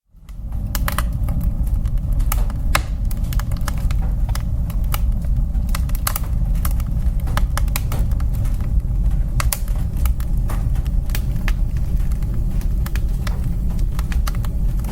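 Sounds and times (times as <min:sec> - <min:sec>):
burning wood crackling: 0:00.0 - 0:14.9
wood fire burning: 0:00.0 - 0:14.9.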